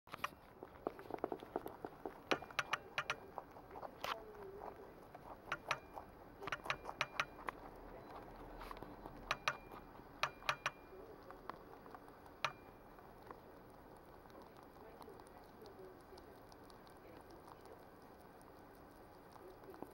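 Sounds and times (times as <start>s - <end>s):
rabbit crunching cucumber: 0.1s - 19.9s.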